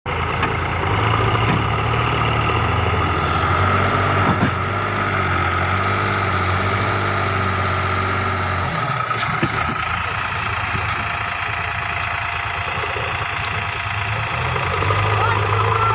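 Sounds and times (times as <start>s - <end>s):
tractor diesel engine droning: 0.0s - 15.9s.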